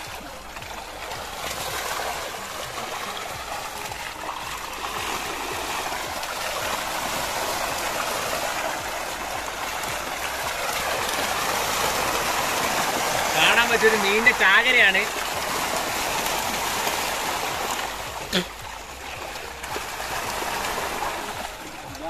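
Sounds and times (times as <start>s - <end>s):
fish thrashing water: 0.0s - 22.0s.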